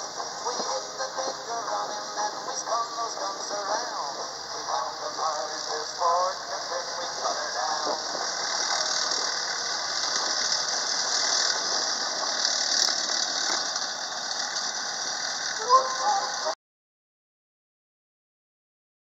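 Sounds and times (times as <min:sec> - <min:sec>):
armoured vehicle engines: 0:00.0 - 0:16.6
steady high hiss: 0:00.0 - 0:16.6
track rattle and squeal: 0:00.0 - 0:16.6.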